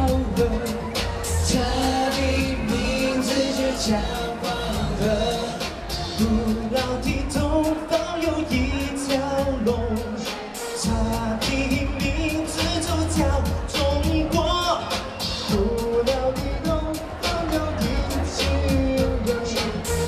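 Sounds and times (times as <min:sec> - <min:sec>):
men singing into microphones: 0:00.0 - 0:20.0
pop backing track with beat: 0:00.0 - 0:20.0.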